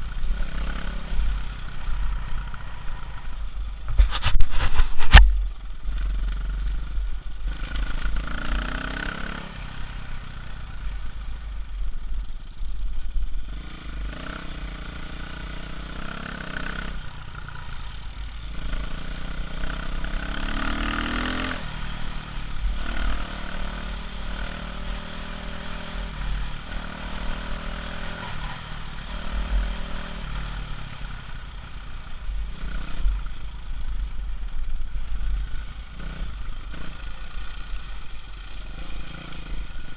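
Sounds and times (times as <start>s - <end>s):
motorcycle engine revving: 0.0s - 12.5s, 13.4s - 34.2s, 34.9s - 39.9s.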